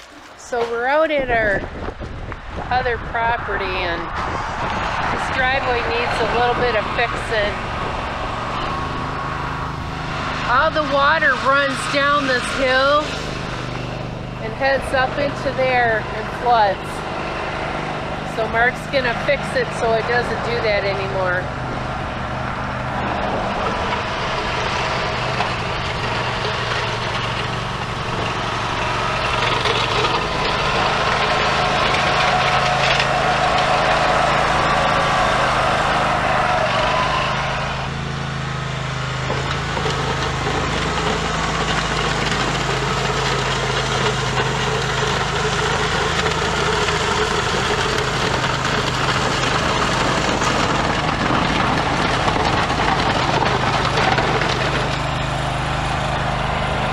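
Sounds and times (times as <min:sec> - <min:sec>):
blade scraping gravel: 0:00.0 - 0:01.1, 0:04.7 - 0:56.9
mower engine running: 0:00.0 - 0:56.9.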